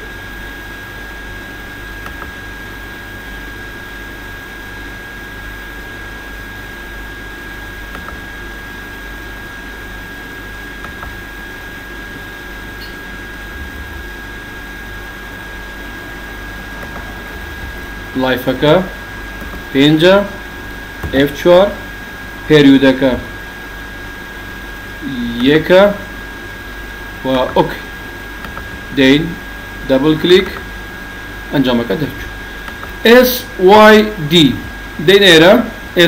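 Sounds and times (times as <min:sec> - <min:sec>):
fan noise: 0:00.0 - 0:36.0
thin high whine: 0:05.9 - 0:36.0.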